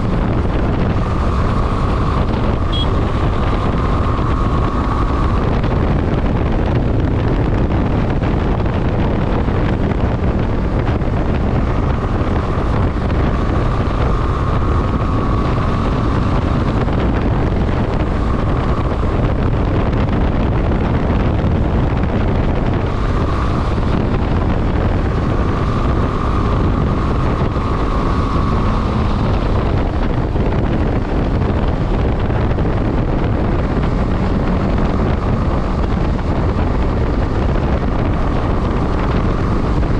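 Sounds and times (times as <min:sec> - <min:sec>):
motorcycle engine: 0:00.0 - 0:39.9
road noise: 0:00.0 - 0:39.9
wind buffeting microphone: 0:00.0 - 0:39.9.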